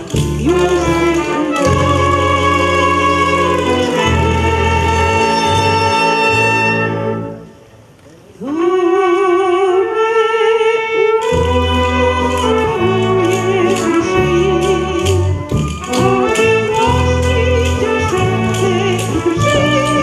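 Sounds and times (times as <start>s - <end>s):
soprano singing with vibrato: 0.0s - 6.4s, 8.4s - 20.0s
bass guitar: 0.0s - 7.4s, 11.3s - 20.0s
wind band playing: 0.0s - 7.9s, 8.6s - 20.0s.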